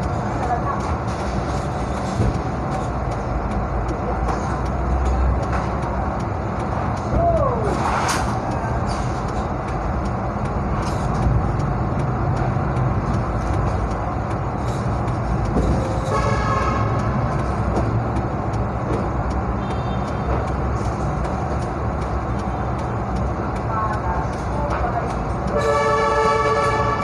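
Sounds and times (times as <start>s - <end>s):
low vehicle rumble: 0.0s - 27.0s.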